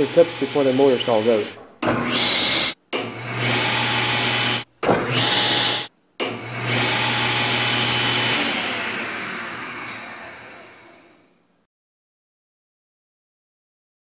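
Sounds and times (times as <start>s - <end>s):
table saw motor whirring: 0.0s - 11.3s.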